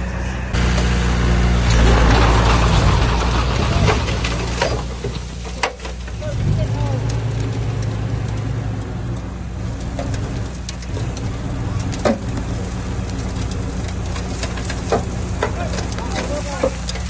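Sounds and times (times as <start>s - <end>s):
diesel machine running: 0.0s - 17.0s.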